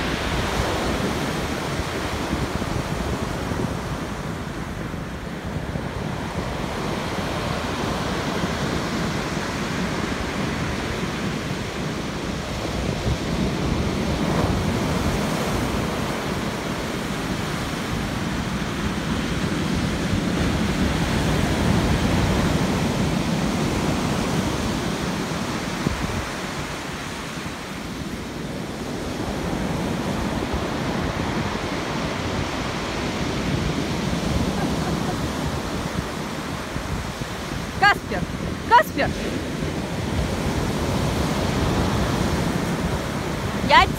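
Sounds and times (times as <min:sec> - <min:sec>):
waves crashing on pebble beach: 0:00.0 - 0:43.9.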